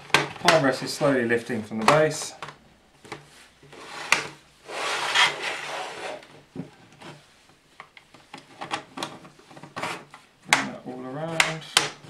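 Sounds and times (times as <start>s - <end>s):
plastic scraping and rubbing: 0.0s - 12.0s.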